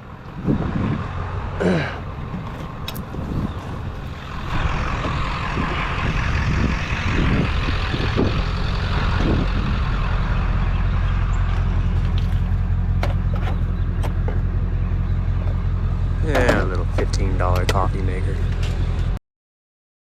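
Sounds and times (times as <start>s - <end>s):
vehicle engine and road noise: 0.0s - 19.2s.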